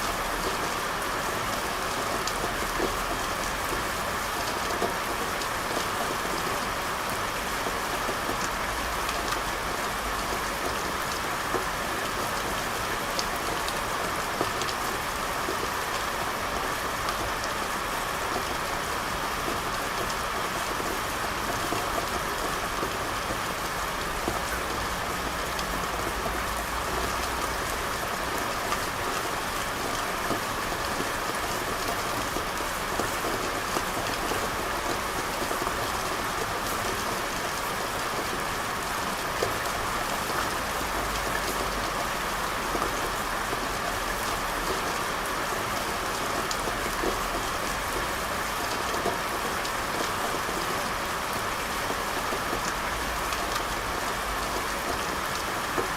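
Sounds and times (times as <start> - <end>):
rain pattering on hard surfaces: 0.0 - 55.9.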